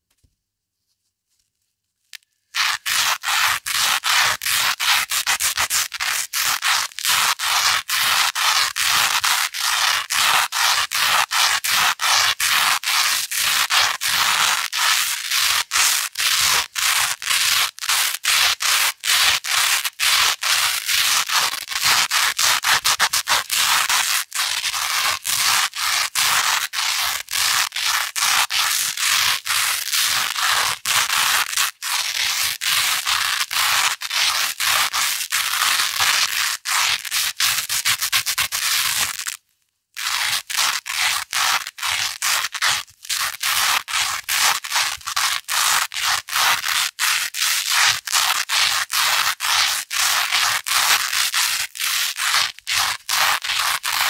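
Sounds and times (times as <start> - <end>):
velcro scraping back and forth: 1.4 - 54.0.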